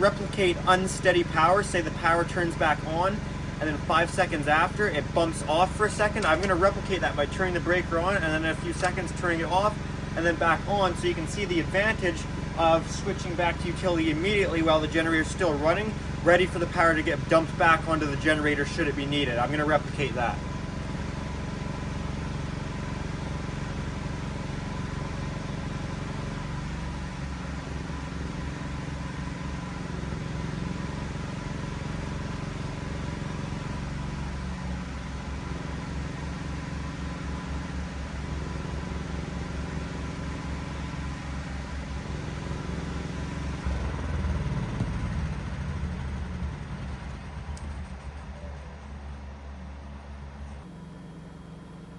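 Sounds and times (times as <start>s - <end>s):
generator engine running: 0.0s - 51.9s.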